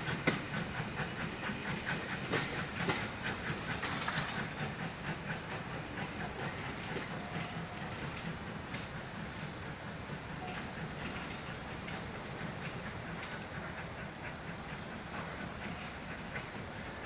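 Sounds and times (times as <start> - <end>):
steady hiss of steam: 0.0 - 17.0
steam locomotive rolling: 0.0 - 17.0
wheels clicking over rail joints: 0.0 - 17.0.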